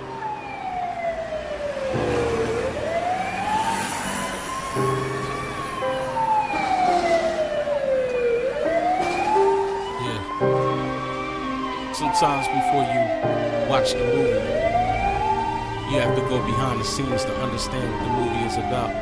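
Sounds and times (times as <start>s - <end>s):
sustained music chords: 0.0s - 18.1s
siren wailing: 0.0s - 19.0s.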